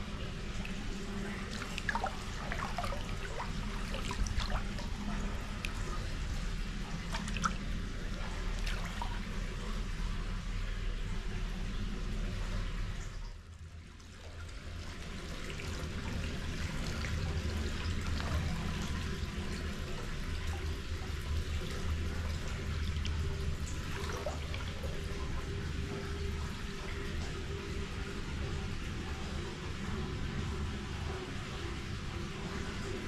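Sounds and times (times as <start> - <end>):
water pouring into a bath: 0.0 - 13.3, 14.0 - 28.1.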